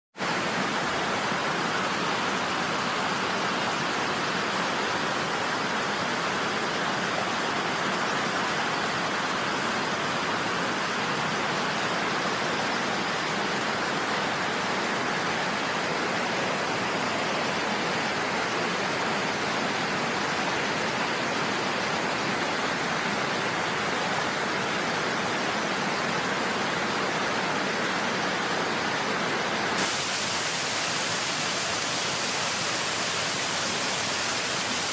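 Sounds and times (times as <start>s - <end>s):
fast-flowing floodwater roar: 0.2s - 34.9s.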